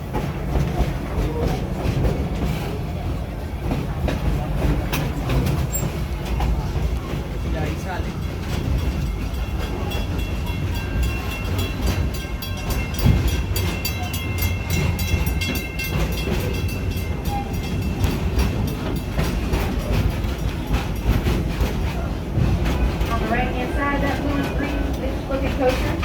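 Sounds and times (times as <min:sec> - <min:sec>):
train rumbling: 0:00.0 - 0:26.0
wheels clicking over rails: 0:00.0 - 0:26.0.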